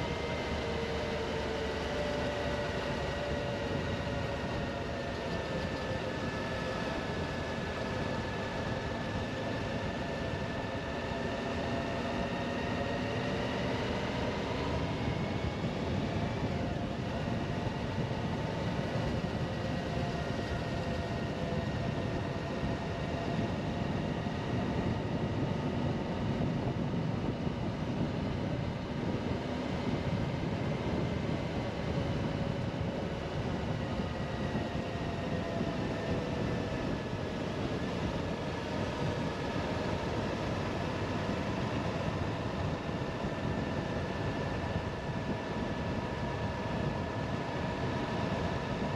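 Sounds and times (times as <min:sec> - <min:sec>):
wind noise: 0:01.6 - 0:48.9.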